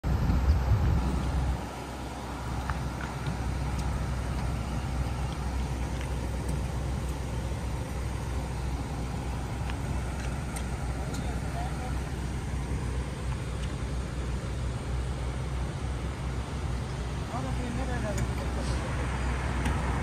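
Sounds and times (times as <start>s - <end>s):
bus engine idling: 0.0s - 20.0s
cars idling: 0.0s - 20.0s.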